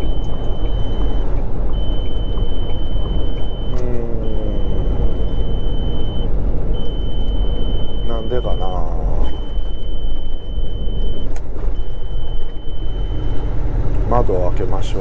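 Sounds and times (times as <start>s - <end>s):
high beep pulses: 0.0s - 13.5s
diesel truck engine: 0.0s - 15.0s
road rumble: 0.0s - 15.0s.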